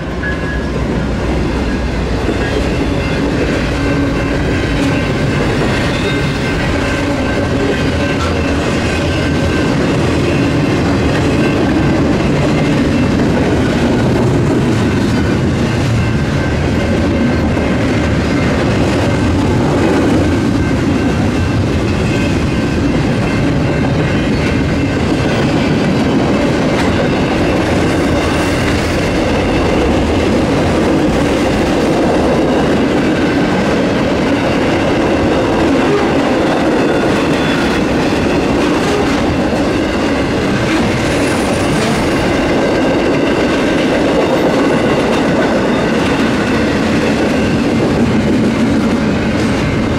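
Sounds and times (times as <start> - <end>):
train wheels clattering on rails: 0.0 - 49.9.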